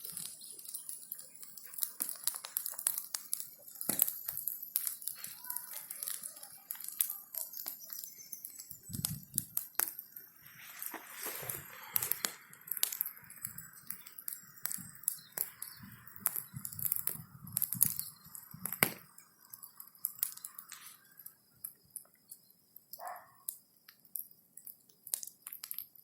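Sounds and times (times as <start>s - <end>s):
bonfire crackling and popping: 0.0s - 26.0s
steady fire hiss: 0.0s - 26.0s.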